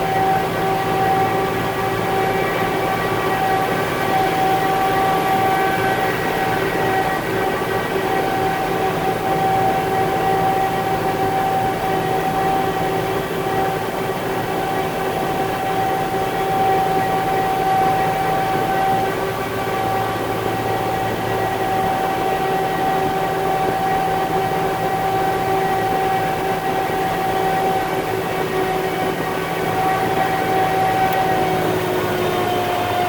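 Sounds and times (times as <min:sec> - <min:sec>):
diesel truck engine running: 0:00.0 - 0:33.0
high mechanical whine: 0:00.0 - 0:33.0.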